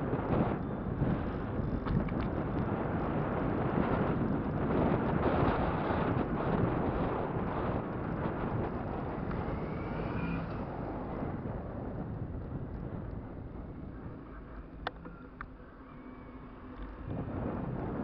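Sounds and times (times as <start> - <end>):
tyre and road rumble: 0.0 - 18.0
wind rushing over microphone: 0.0 - 18.0.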